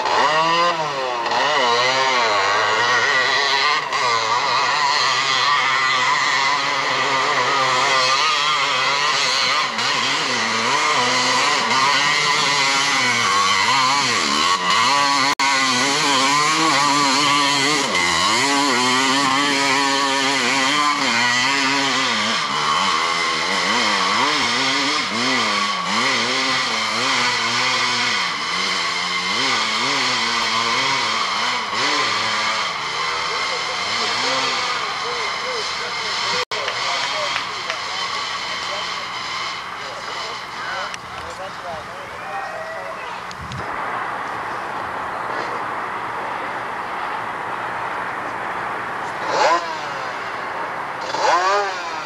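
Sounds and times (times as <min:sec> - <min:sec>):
atv engine revving: 0:00.0 - 0:52.0.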